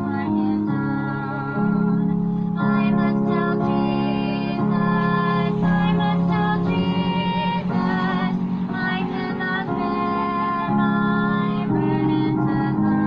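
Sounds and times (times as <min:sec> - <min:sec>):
group singing a hymn: 0:00.0 - 0:13.0
instrumental accompaniment: 0:00.0 - 0:13.0.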